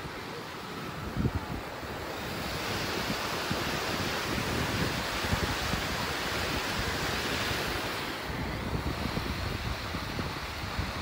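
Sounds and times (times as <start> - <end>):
river water rushing: 0.0 - 11.0
wind buffeting microphone: 0.0 - 11.0.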